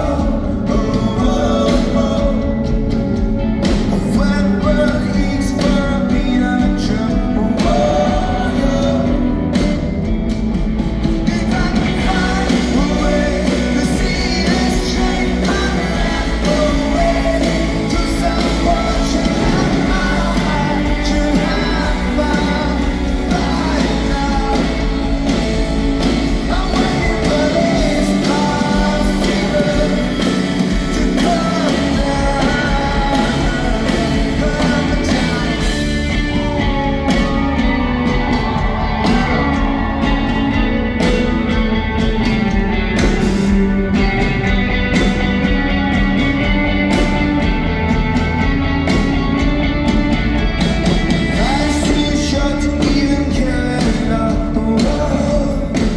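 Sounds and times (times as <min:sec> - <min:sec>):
lead vocals: 0:00.0 - 0:55.9
live rock band playing: 0:00.0 - 0:55.9.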